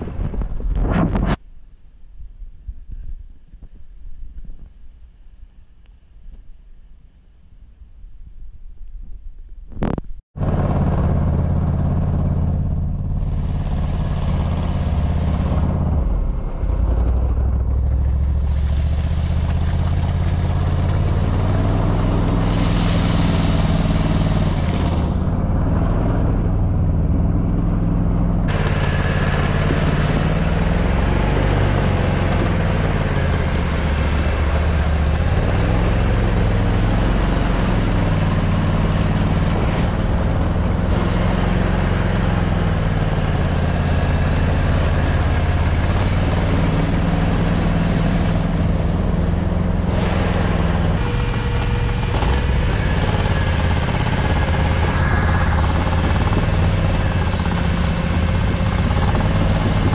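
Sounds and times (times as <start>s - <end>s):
atv engine running: 10.4s - 59.9s.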